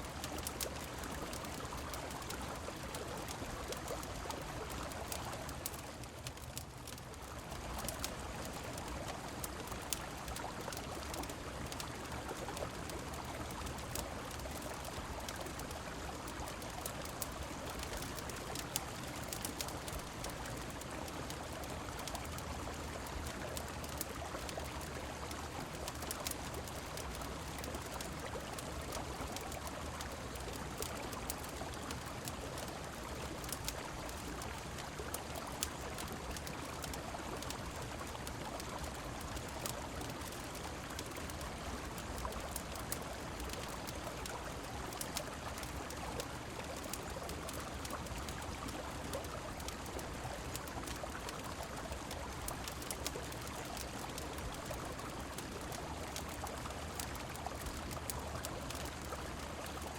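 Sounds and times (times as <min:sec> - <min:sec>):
falling rain: 0:00.0 - 0:59.9
wood fire crackling: 0:00.0 - 0:59.9.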